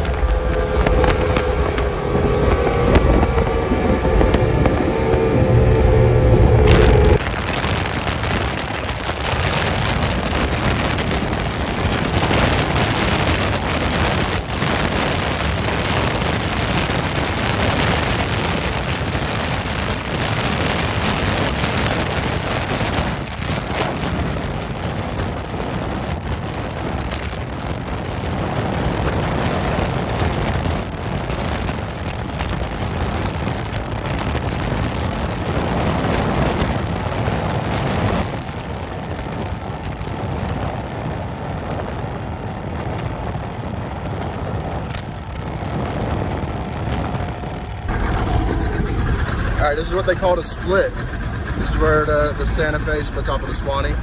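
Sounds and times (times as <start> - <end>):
wind and water spray rushing: 0.0 - 52.4
motorboat engine noise: 0.0 - 54.0.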